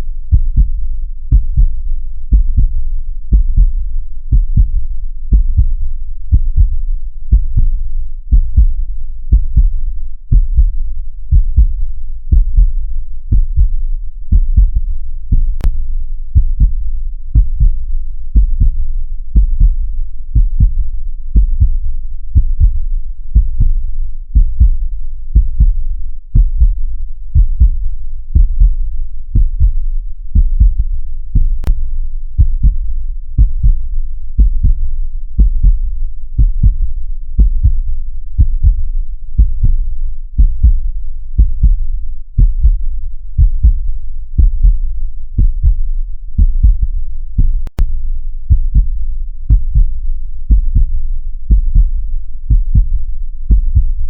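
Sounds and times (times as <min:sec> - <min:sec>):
heartbeat thumps: 0:00.3 - 0:25.8, 0:26.4 - 0:26.8, 0:27.4 - 0:31.8, 0:32.4 - 0:34.8, 0:35.4 - 0:47.9, 0:48.5 - 0:54.0.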